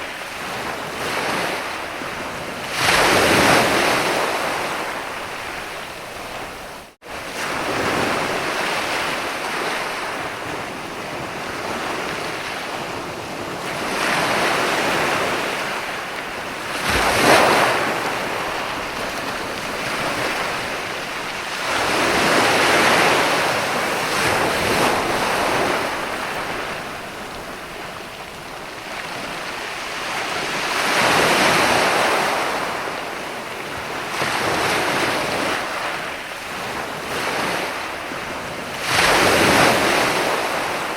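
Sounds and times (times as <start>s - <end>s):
sea waves breaking on beach: 0.0s - 40.9s.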